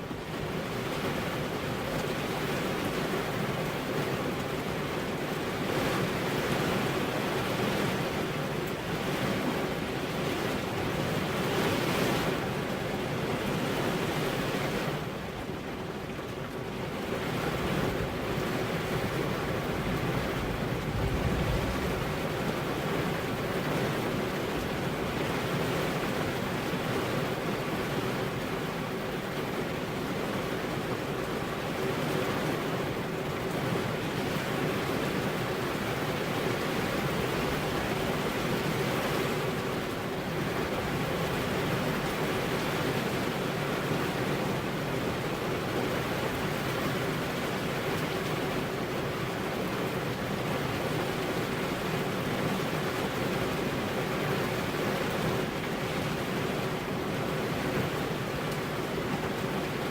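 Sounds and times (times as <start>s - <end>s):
rain on car windows: 0.0s - 59.9s.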